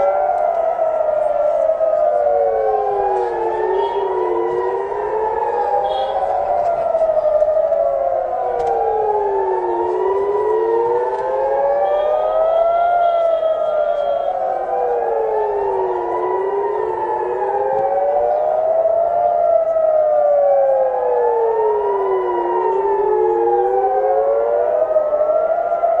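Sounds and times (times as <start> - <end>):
air-raid sirens wailing: 0.0 - 26.0.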